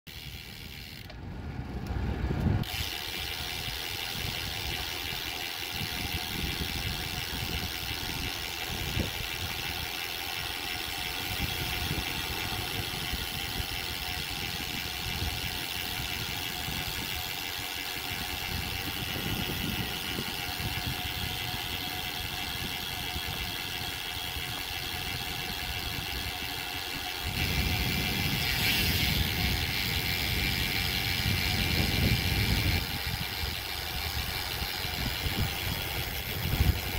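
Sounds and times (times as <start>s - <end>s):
bicycle freewheel ticking: 0.1s - 36.9s
wind and tyre noise: 0.1s - 36.9s.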